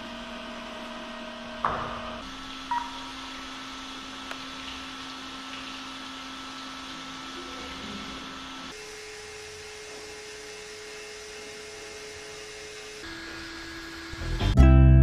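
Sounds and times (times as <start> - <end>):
electrical hum: 0.0 - 14.6.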